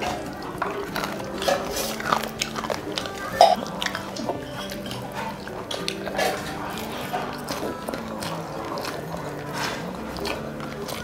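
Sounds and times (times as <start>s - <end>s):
fingers squelching rice: 0.0s - 11.0s
wet chewing and lip smacking: 0.0s - 11.0s.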